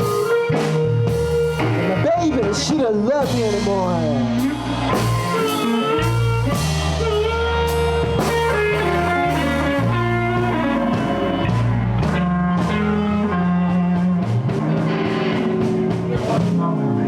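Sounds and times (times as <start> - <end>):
drum kit: 0.0 - 17.0
electric blues band playing: 0.0 - 17.0
electric guitar: 0.0 - 17.0
walking bass line: 0.0 - 17.0.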